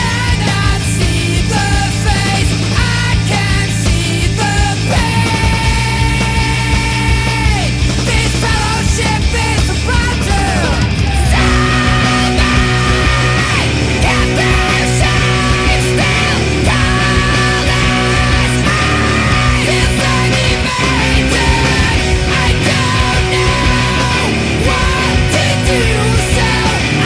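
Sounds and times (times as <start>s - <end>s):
loud rock band playing: 0.0s - 27.0s.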